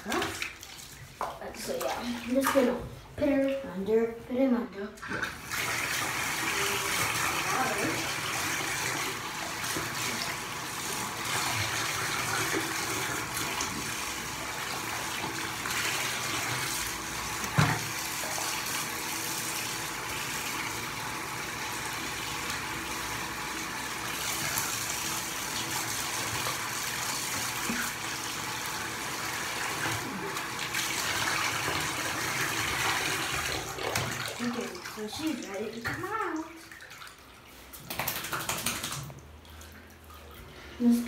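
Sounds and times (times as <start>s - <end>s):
water running into bathtub: 0.0s - 41.0s.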